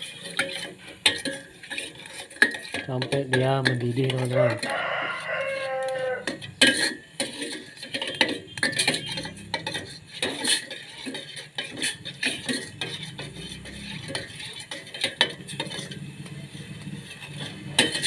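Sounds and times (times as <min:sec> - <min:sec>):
spoon scraping and clinking a pot: 0:00.0 - 0:18.0.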